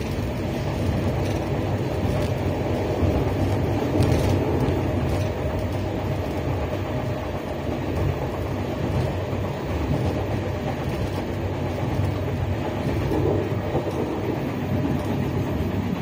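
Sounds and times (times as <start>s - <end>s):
train running noise inside carriage: 0.0s - 16.0s.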